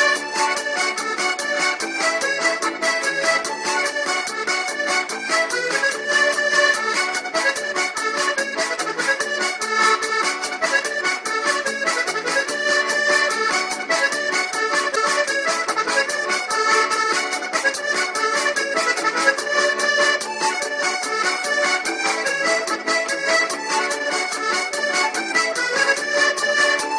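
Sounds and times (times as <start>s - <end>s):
upbeat accordion music: 0.0s - 26.9s.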